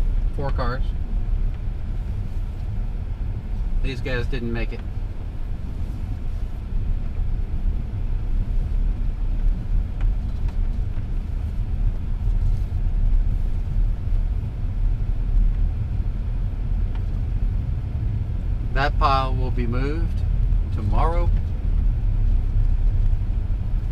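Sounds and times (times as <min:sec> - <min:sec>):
car engine and tyres rumbling: 0:00.0 - 0:23.9.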